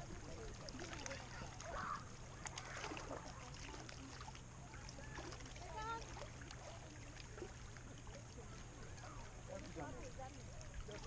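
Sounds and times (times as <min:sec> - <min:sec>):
small waves lapping against rocks: 0:00.0 - 0:11.0.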